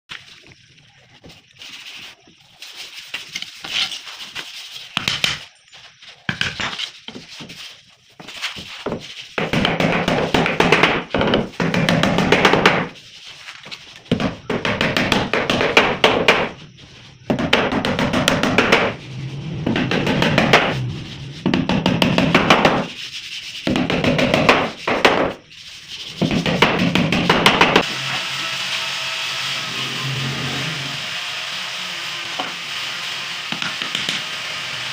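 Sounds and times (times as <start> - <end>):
tool working wood in strokes: 6.2 - 34.9.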